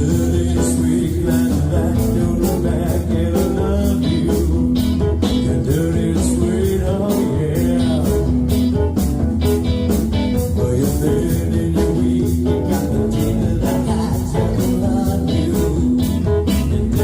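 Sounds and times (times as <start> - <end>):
guitar: 0.0 - 17.0
live band playing: 0.0 - 17.0
steady drum beat: 0.0 - 17.0.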